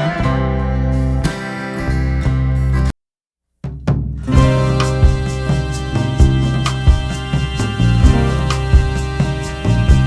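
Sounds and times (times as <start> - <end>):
strummed acoustic guitar music: 0.0 - 2.9, 3.8 - 10.0.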